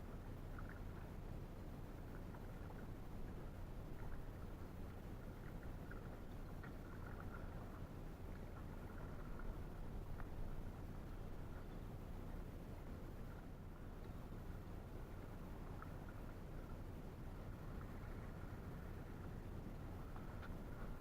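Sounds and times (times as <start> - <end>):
low rumble: 0.0 - 21.0
water around canoe: 0.0 - 21.0
faint high ticks: 2.0 - 12.5, 13.1 - 21.0.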